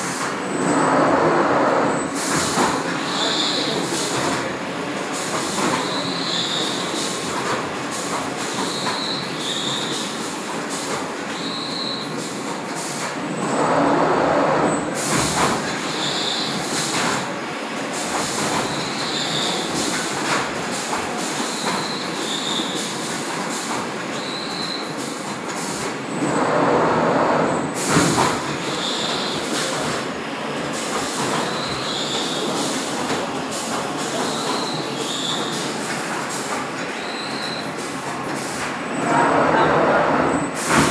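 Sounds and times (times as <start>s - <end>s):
printing machine running: 0.0s - 40.9s.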